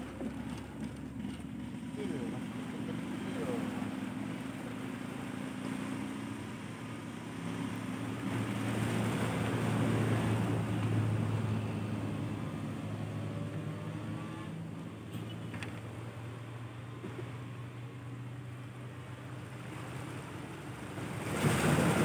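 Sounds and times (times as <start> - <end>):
motor engine humming: 0.0 - 22.0.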